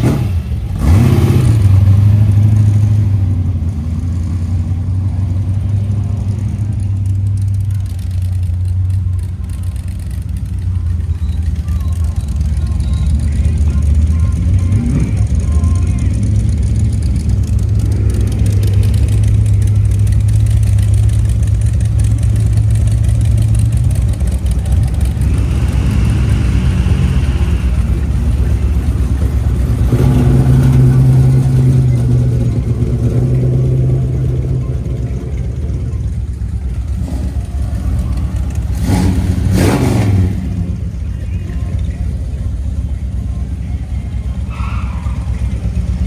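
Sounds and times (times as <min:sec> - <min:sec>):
car engine revving: 0:00.0 - 0:46.0
car engines running: 0:00.0 - 0:46.0.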